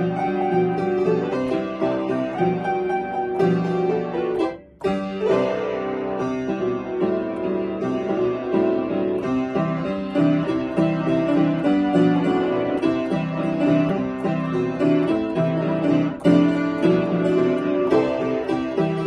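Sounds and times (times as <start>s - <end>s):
lively piano playing: 0.0s - 19.0s.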